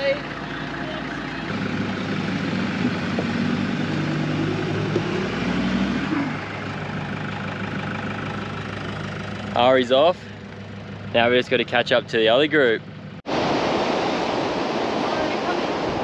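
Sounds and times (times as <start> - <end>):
vehicle engine pulling away: 0.0 - 13.2.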